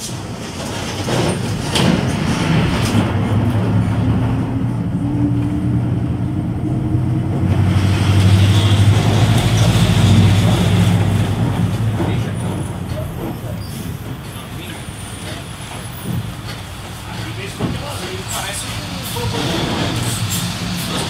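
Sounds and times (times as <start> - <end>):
diesel bus engine droning: 1.4 - 21.0.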